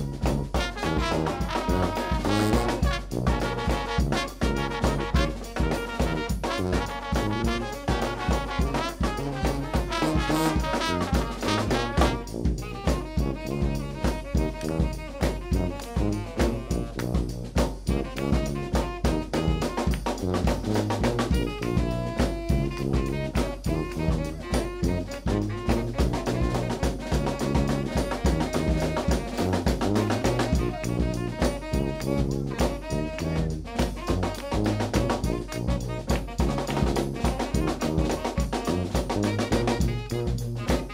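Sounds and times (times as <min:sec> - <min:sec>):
bass drum and snare beat: 0:00.0 - 0:40.9
sousaphone bass line: 0:00.0 - 0:40.9
tenor saxophone: 0:00.0 - 0:40.9
trombone: 0:00.0 - 0:40.9
trumpet: 0:00.0 - 0:40.9.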